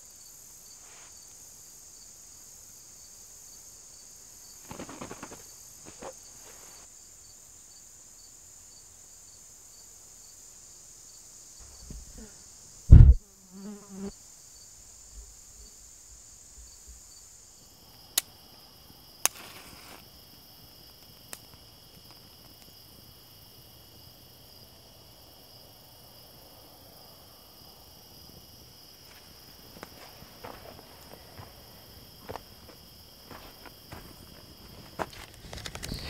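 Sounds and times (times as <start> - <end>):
insect chorus trilling: 0.0 - 36.0.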